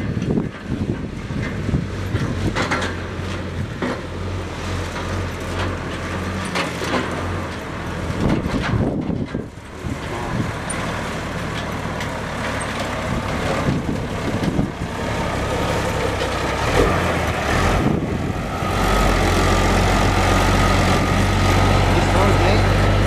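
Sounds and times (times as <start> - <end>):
diesel truck engine driving: 0.0 - 23.0.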